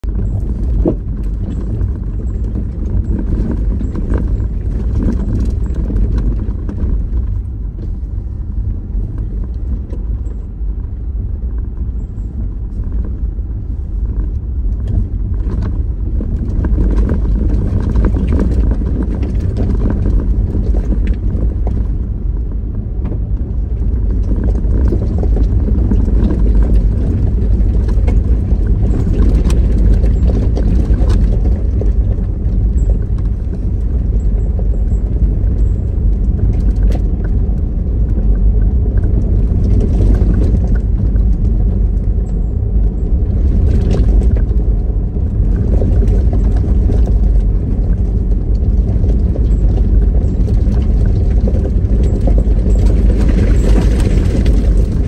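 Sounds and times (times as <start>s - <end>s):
small knocks and rattles: 0.0s - 8.3s, 14.1s - 55.0s
car driving rumble: 0.0s - 55.0s.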